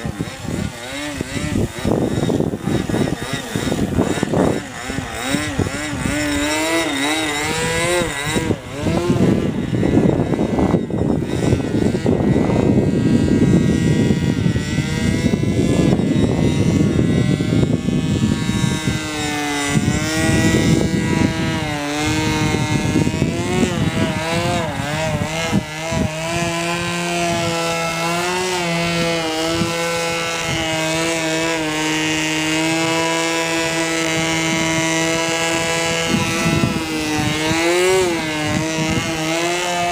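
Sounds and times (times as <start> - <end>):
model airplane engine running: 0.0 - 39.9
wind rumble on microphone: 0.0 - 39.9.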